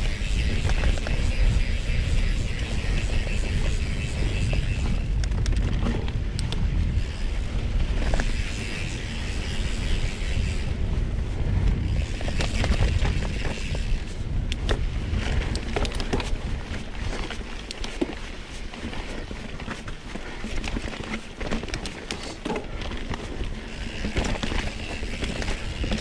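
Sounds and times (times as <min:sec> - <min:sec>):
bike clicking and rattling: 0:00.0 - 0:26.0
wind and tyre rumble: 0:00.0 - 0:26.0.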